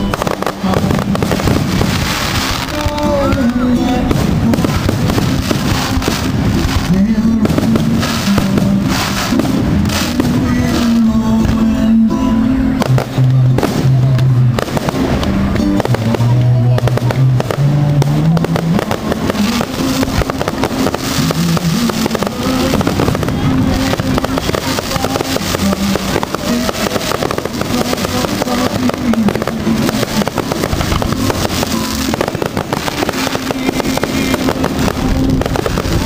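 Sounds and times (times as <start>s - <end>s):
firework shells bursting and crackling: 0.0s - 11.7s, 12.8s - 36.0s
music with moving bass line: 0.0s - 36.0s.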